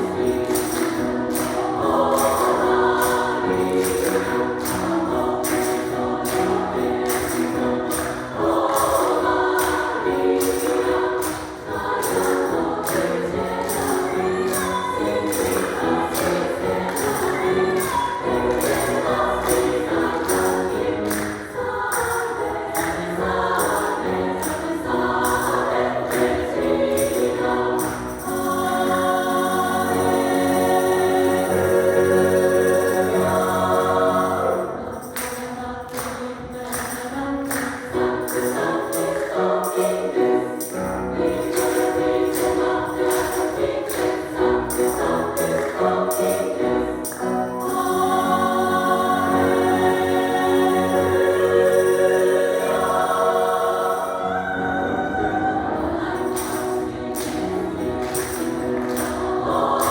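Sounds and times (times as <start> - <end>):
women's choir singing gospel hymn: 0.0 - 59.9.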